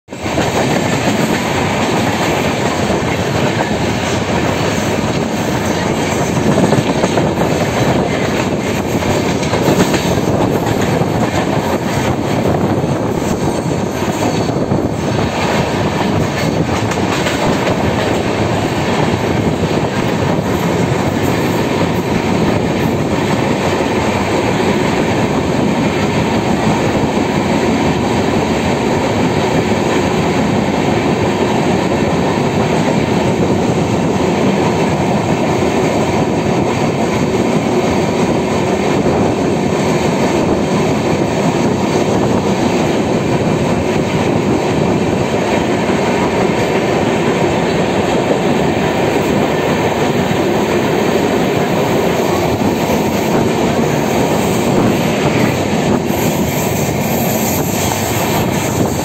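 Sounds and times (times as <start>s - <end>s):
train wheels roaring on rails: 0.0s - 59.0s.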